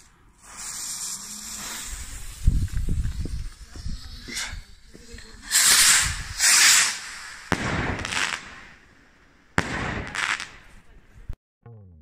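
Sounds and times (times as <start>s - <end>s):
firework rockets hissing: 0.0s - 11.2s
firework bangs: 0.4s - 11.4s.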